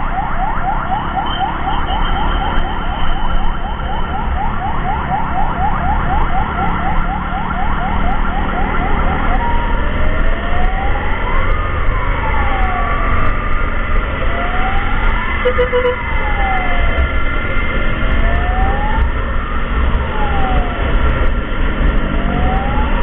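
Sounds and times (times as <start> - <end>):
electronic siren yelping and wailing: 0.0 - 23.0.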